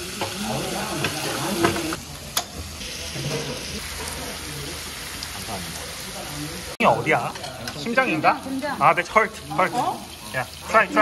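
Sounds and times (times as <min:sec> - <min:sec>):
meat sizzling on a griddle: 0:00.0 - 0:11.0.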